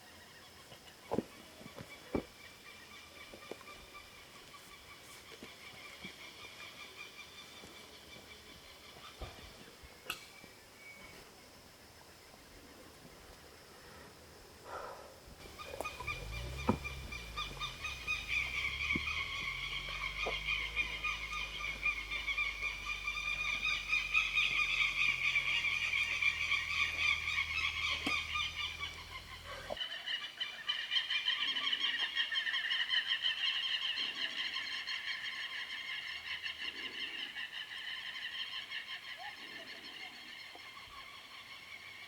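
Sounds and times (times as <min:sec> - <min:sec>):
frogs or insects trilling: 0:00.0 - 0:42.0.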